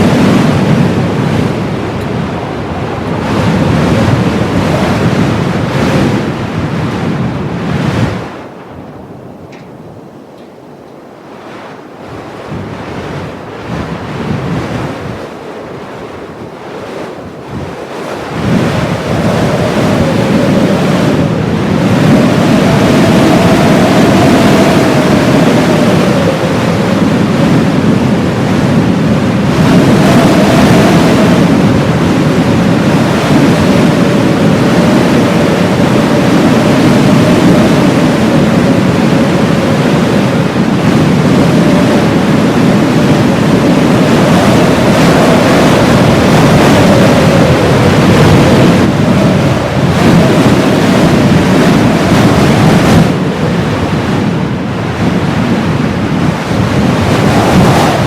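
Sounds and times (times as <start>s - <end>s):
blizzard wind blowing hard: 0.0s - 58.0s.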